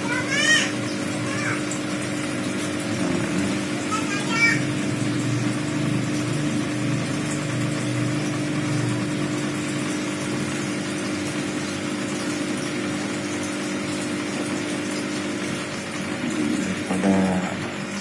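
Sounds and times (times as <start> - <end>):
aquarium pump humming: 0.0 - 18.0.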